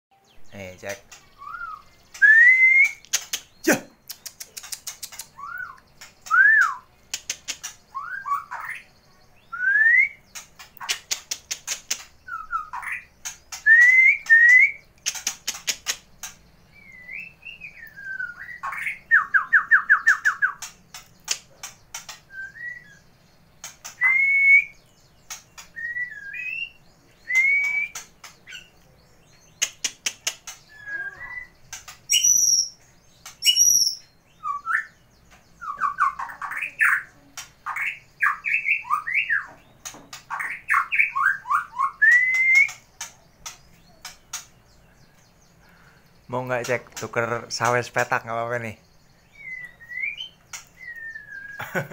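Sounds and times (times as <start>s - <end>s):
bird singing varied song: 0.1s - 51.9s.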